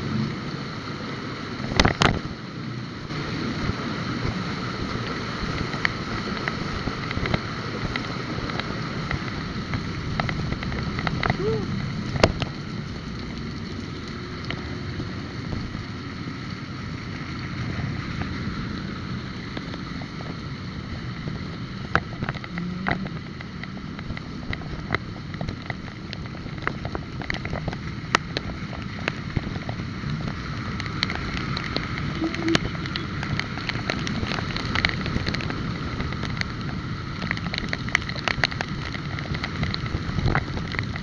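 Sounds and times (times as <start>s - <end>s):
road and traffic noise: 0.0s - 41.0s.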